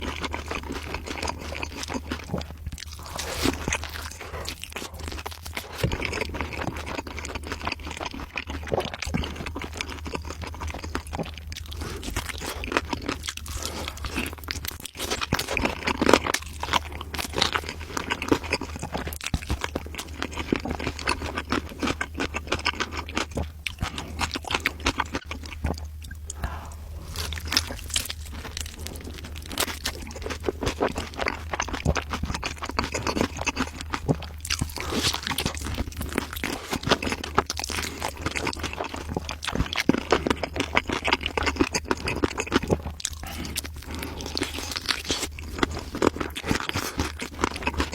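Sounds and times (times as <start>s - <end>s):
person chewing crunchy food: 0.0s - 47.9s
steady low hum: 0.0s - 47.9s.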